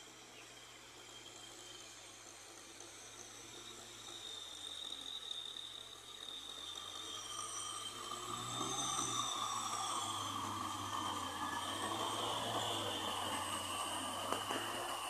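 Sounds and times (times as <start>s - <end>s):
steady high whine: 0.0s - 15.0s
tractor diesel engine under load: 0.0s - 15.0s.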